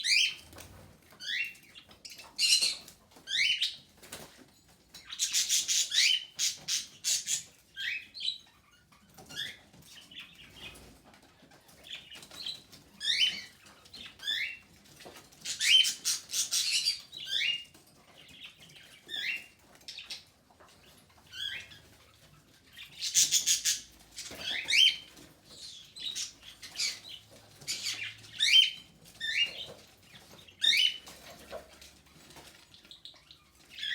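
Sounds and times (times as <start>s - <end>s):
budgerigars chirping: 1.2s - 3.8s, 5.0s - 10.8s, 11.8s - 20.3s, 21.2s - 33.9s.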